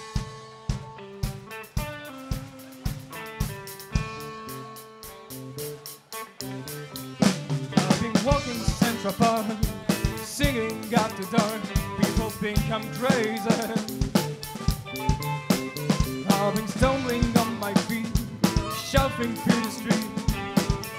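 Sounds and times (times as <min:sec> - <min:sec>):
rock band playing: 0:00.0 - 0:20.9
saxophone lead line: 0:00.0 - 0:20.9.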